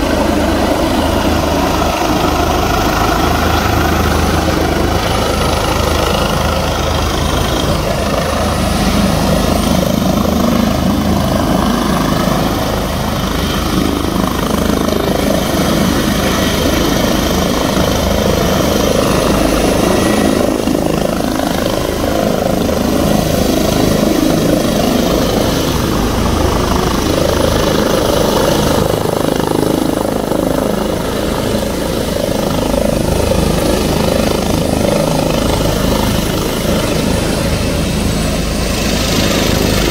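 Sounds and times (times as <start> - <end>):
helicopter rotors and turbines: 0.0 - 39.9.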